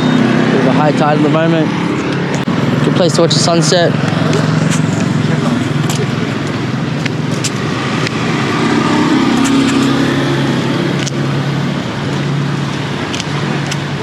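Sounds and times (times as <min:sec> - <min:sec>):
road noise: 0:00.0 - 0:14.0
vehicle engine running: 0:00.0 - 0:14.0.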